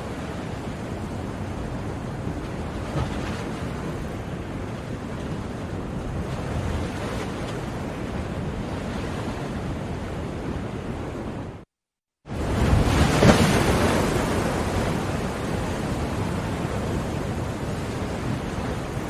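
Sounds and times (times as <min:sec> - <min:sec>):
ocean waves breaking: 0:00.0 - 0:11.6, 0:12.3 - 0:19.0.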